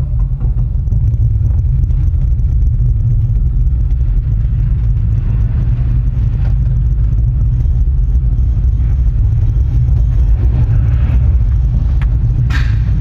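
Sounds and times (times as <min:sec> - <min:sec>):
gondola low rumble: 0:00.0 - 0:13.0.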